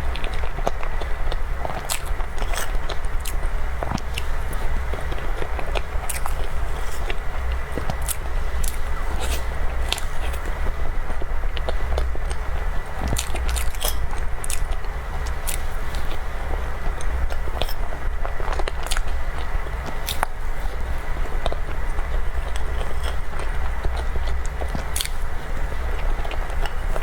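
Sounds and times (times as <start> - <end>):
chewing cake: 0.0 - 27.0
steady low hum: 0.0 - 27.0.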